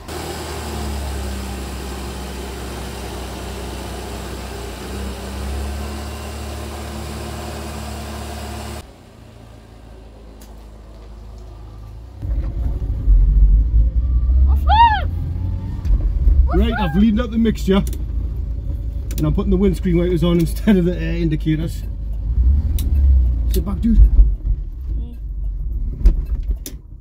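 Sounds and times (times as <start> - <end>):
car engine idling: 0.0 - 25.8.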